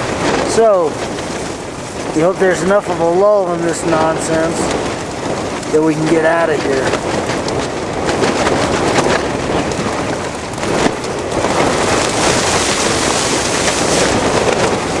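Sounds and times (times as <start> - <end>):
strong wind rushing: 0.0 - 15.0
tent fabric flapping: 0.0 - 15.0.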